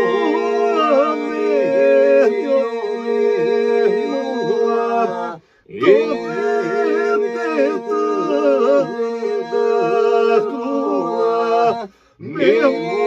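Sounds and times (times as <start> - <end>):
man singing ornamented melody: 0.0 - 13.0.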